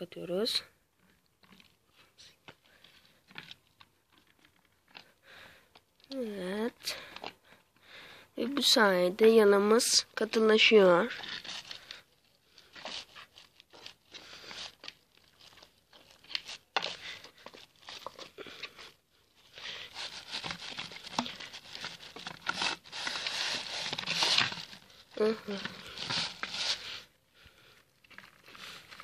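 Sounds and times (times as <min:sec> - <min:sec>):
thick dough squelching and scraping: 0:00.9 - 0:07.4, 0:10.4 - 0:29.0.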